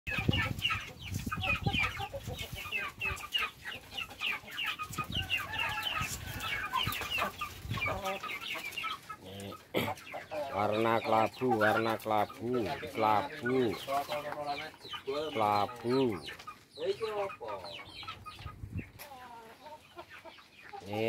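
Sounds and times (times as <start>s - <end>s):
young chickens clucking and chirping: 0.1s - 21.0s.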